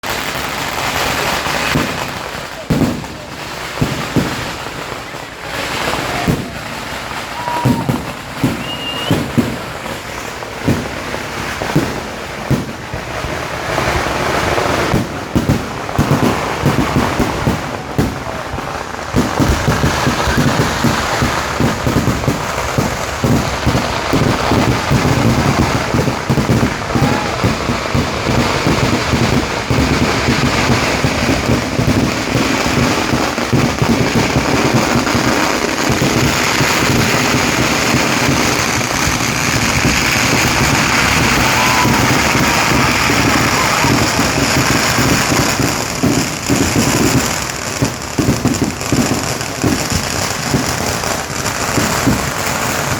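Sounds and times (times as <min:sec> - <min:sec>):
firecrackers crackling: 0:00.0 - 0:52.9.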